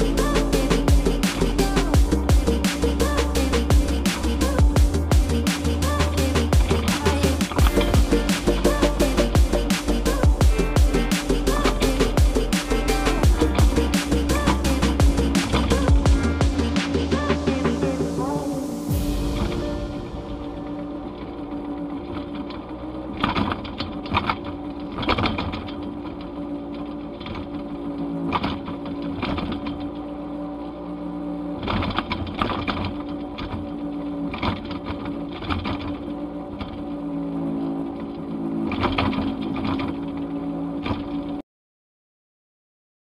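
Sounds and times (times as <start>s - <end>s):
outboard motor running: 0.0s - 41.4s.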